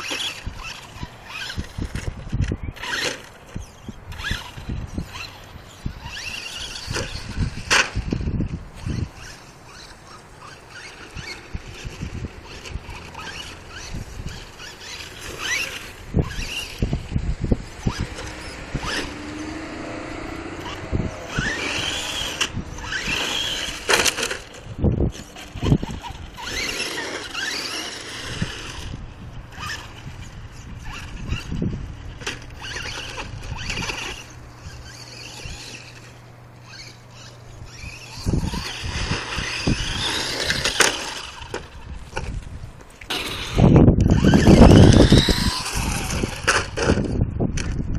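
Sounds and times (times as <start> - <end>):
toy truck bumping and tumbling: 0.0 - 19.2, 20.6 - 47.9
electric motor whining: 0.0 - 47.8
tyres on asphalt: 0.0 - 47.9.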